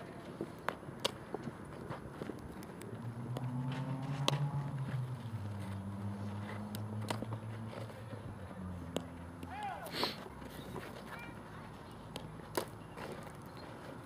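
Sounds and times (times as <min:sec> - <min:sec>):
vehicle engine humming: 0:01.6 - 0:14.0.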